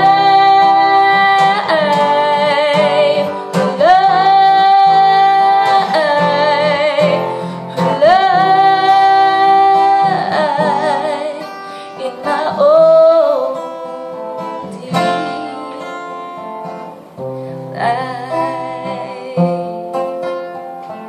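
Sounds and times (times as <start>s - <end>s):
woman singing with vibrato: 0.0s - 20.6s
strummed acoustic guitar: 0.0s - 21.0s.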